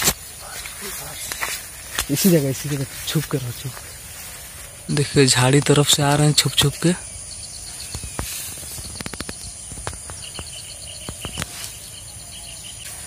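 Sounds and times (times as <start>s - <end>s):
high-pitched insect drone: 0.0s - 13.0s
rapid chirping pulses: 0.0s - 13.0s.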